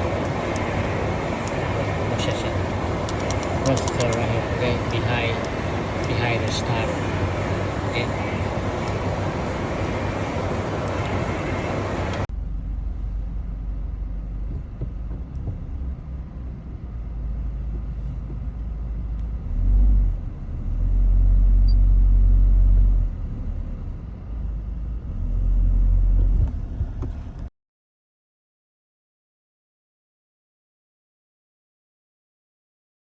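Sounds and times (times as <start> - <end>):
car engine rumbling: 0.0 - 27.5.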